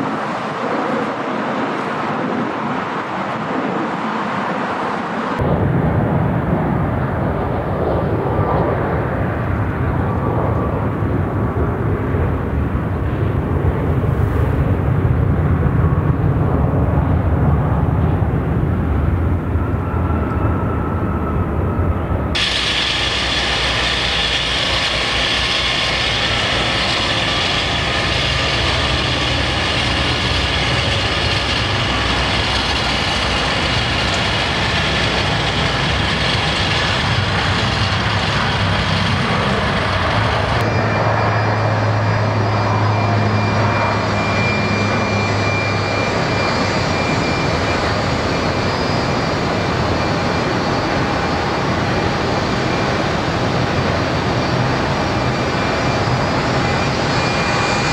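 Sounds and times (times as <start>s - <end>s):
aircraft engines humming: 0.0s - 57.9s
jet engines running: 0.0s - 57.9s.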